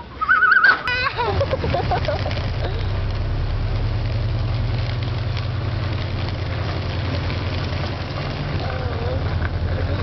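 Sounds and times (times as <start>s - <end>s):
vehicle engine running: 0.9s - 10.0s.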